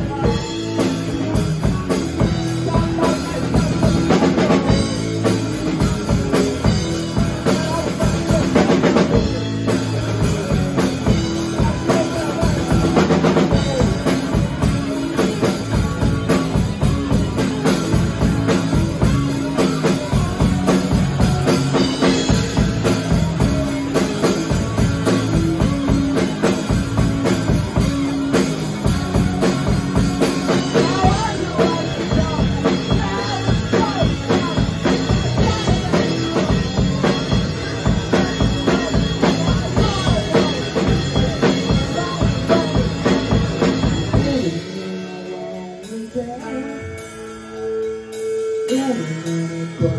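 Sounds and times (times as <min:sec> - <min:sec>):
drum kit beat: 0:00.0 - 0:49.9
electric bass line: 0:00.0 - 0:49.9
electric guitars: 0:00.0 - 0:49.9.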